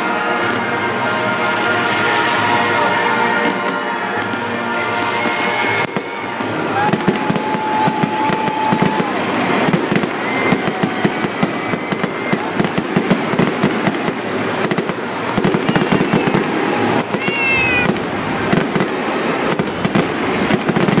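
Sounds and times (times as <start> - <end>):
fireworks crackling and bursting: 0.0 - 21.0.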